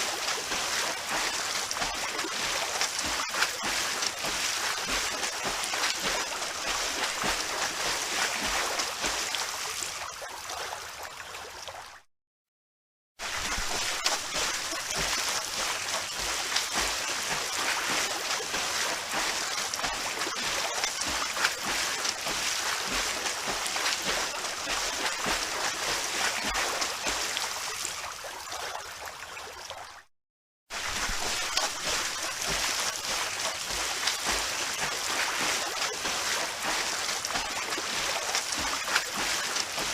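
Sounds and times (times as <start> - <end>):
swimmer splashing water: 0.0 - 11.1, 13.2 - 29.2, 30.7 - 39.9.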